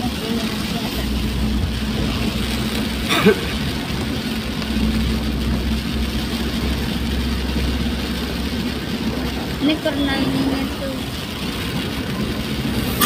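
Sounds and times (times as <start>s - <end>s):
road hiss on wet road: 0.0s - 13.0s
vehicle engine drone: 0.0s - 13.0s.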